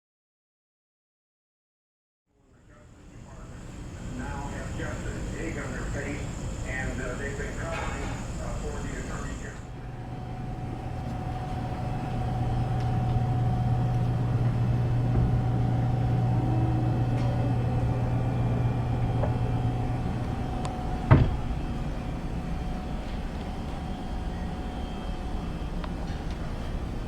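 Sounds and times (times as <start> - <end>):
vehicle engine humming: 2.6 - 27.0.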